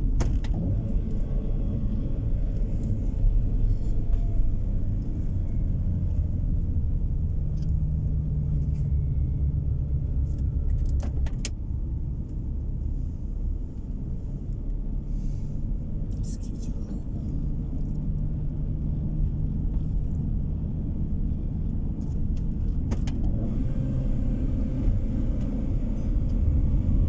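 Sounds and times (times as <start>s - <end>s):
engine and tyres rumbling: 0.0s - 27.0s.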